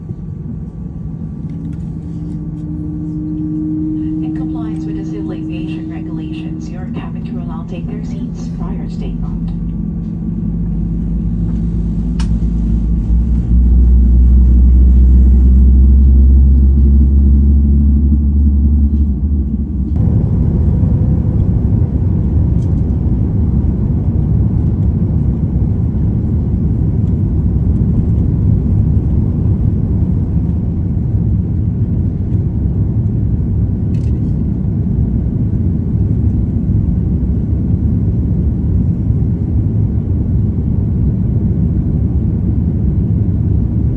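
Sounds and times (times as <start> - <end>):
airliner engines rumbling: 0.0 - 43.9.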